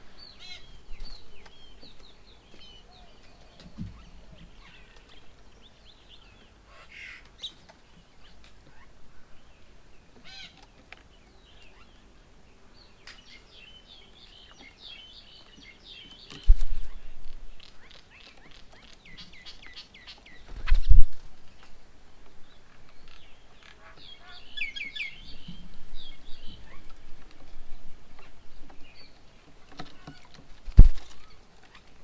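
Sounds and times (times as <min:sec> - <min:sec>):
birds chirping and calling: 0:00.0 - 0:32.0.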